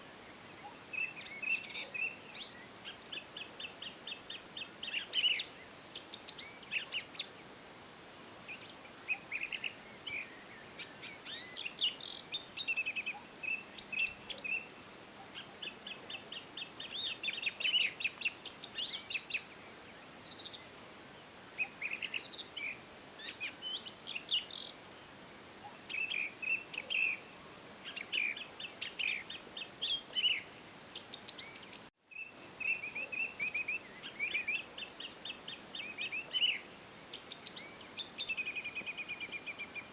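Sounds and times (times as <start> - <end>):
outdoor hiss: 0.0 - 39.9.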